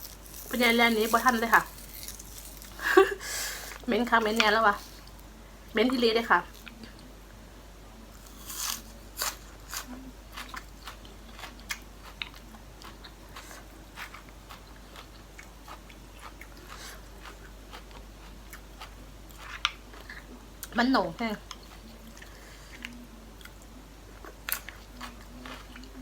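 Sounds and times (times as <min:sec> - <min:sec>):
crunching and chewing food: 0:00.0 - 0:07.2, 0:08.1 - 0:26.0.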